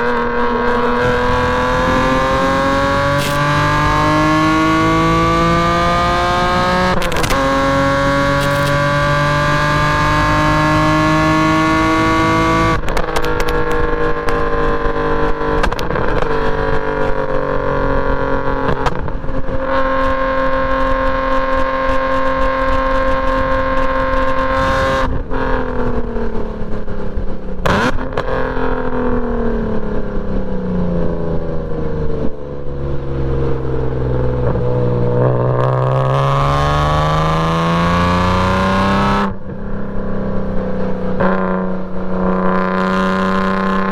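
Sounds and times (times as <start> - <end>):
car engine revving hard: 0.0 - 25.6, 27.6 - 29.7, 34.3 - 39.8, 40.8 - 43.9.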